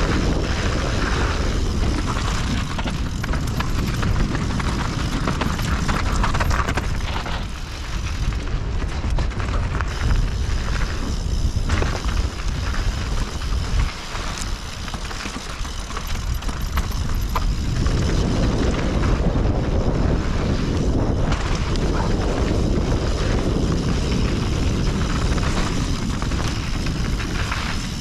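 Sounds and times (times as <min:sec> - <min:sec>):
bike clicks and rattles: 0:00.0 - 0:28.0
wind rushing over microphone: 0:00.0 - 0:28.0.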